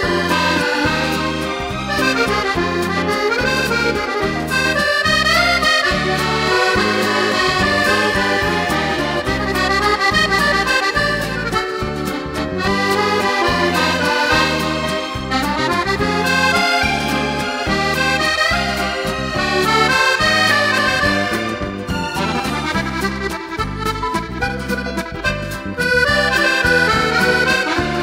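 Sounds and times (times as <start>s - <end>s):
instrumental music with pulsing bass: 0.0s - 28.0s.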